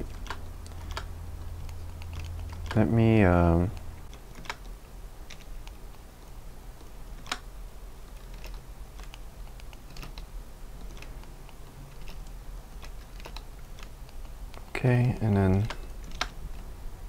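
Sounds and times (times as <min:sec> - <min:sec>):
keyboard and mouse clicks: 0:00.0 - 0:16.7
faint low hum: 0:00.0 - 0:17.0.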